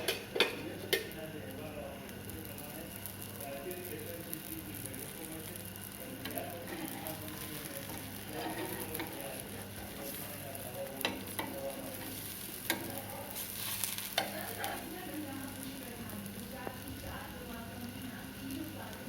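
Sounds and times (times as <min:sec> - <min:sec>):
batter sizzling in oil: 0:00.0 - 0:19.0.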